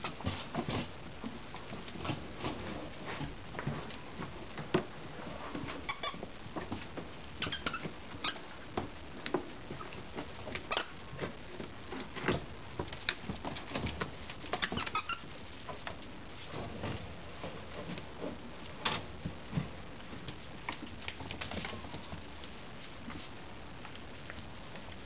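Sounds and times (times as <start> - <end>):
paws clicking on hardwood floor: 0.0 - 25.0.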